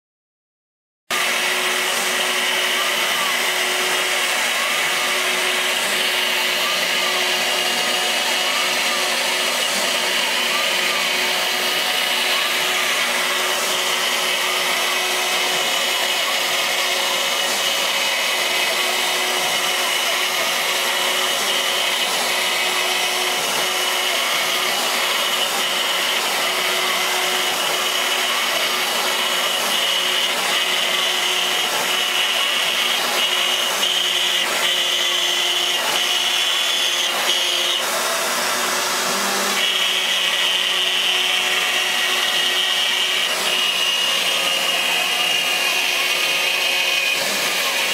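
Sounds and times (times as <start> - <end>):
router spindle whining: 1.1 - 47.9.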